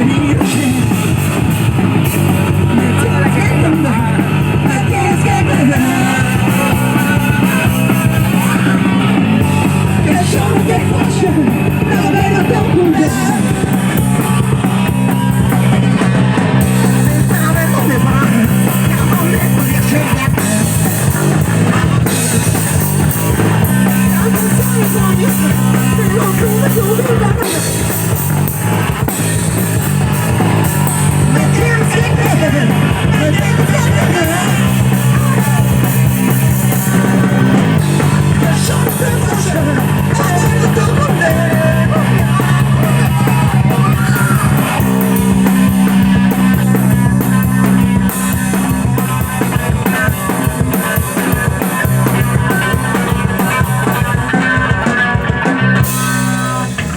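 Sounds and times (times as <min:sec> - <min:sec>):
person singing: 0:00.0 - 0:01.6, 0:02.5 - 0:29.1, 0:29.8 - 0:56.8
punk rock band playing: 0:00.0 - 0:56.9.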